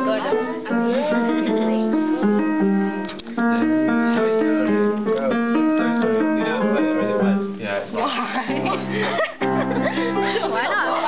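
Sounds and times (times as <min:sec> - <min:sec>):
upright piano playing: 0:00.0 - 0:11.0.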